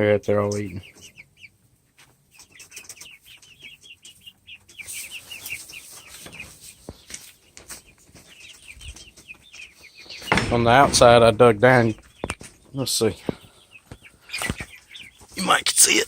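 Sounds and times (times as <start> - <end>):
chickens peeping: 0.0 - 16.0.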